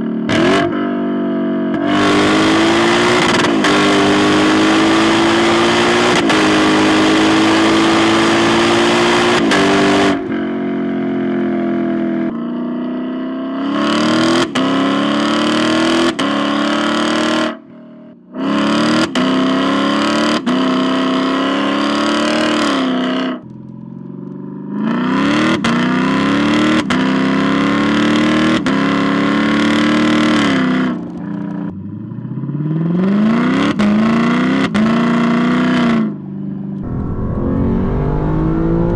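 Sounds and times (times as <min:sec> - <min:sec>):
car engine revving hard: 0:00.3 - 0:00.8, 0:01.7 - 0:11.2, 0:13.6 - 0:17.6, 0:18.4 - 0:23.4, 0:24.8 - 0:36.2, 0:36.8 - 0:38.9.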